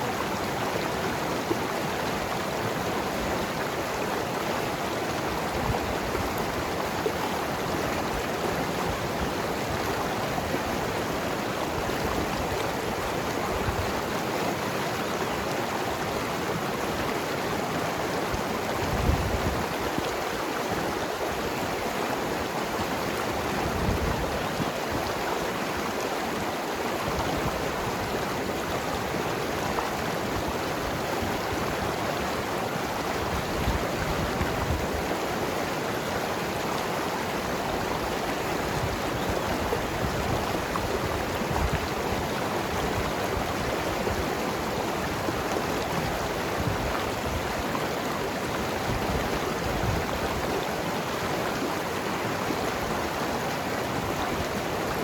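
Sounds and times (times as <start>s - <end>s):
low rumbles of surging water: 0.0s - 55.0s
river rushing over rocks: 0.0s - 55.0s.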